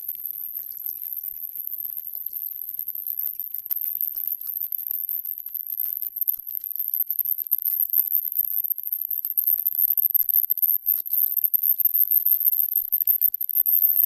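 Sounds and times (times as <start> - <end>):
crackling static: 0.0 - 14.0.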